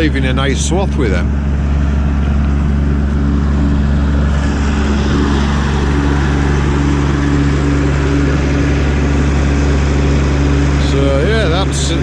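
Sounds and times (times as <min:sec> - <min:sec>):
tractor engine mowing: 0:00.0 - 0:12.0.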